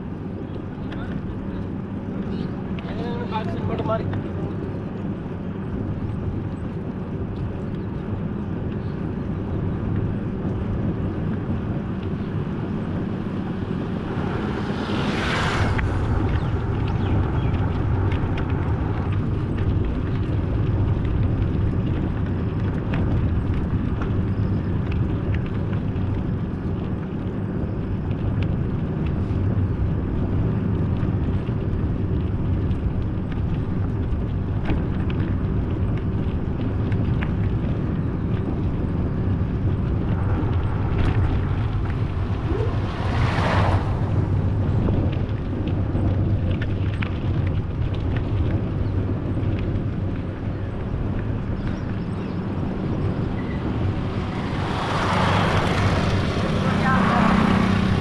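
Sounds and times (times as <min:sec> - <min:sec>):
vehicle engine drone and road noise: 0:00.0 - 0:58.0.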